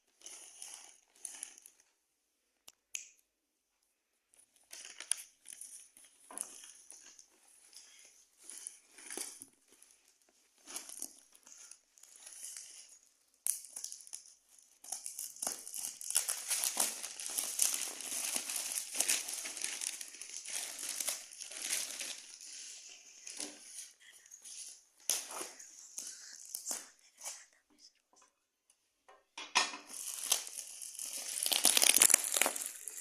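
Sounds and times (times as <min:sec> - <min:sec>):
parcel packaging crinkling: 0:00.0 - 0:01.9, 0:04.4 - 0:27.9, 0:29.9 - 0:33.0.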